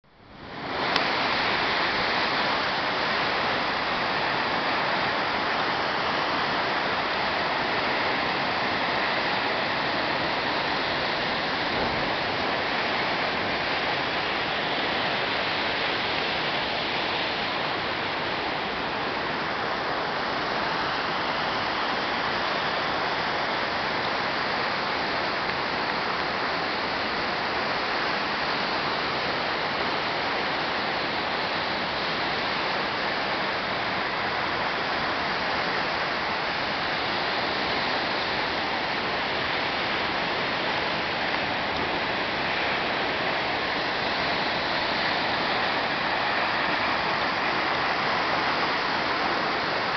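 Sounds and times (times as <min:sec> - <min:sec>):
waterfall rushing water: 0:00.1 - 0:49.9.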